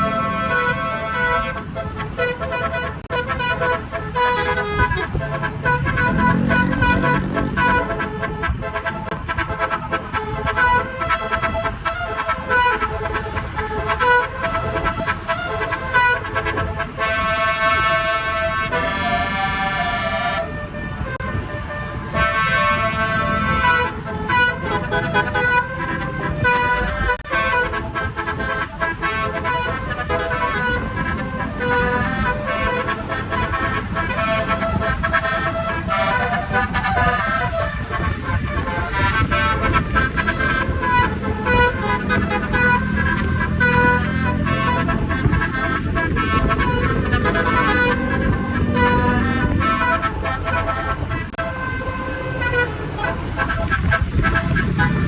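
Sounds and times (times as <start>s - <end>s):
multi-tone bus horn melody: 0.0s - 55.0s.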